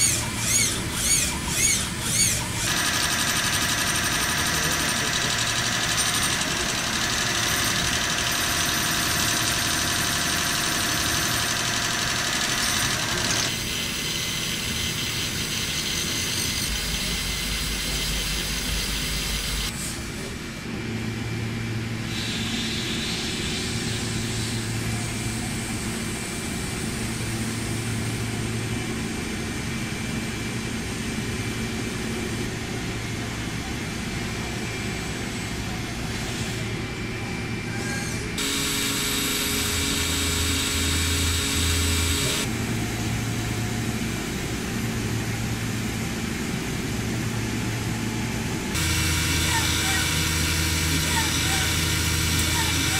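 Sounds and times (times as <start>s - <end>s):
machine whine: 0.0s - 52.9s.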